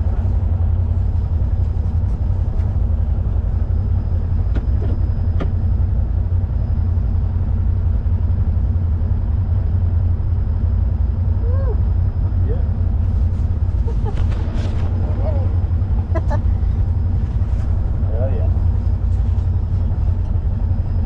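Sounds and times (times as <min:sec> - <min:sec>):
utv engine low rumble: 0:00.0 - 0:21.0.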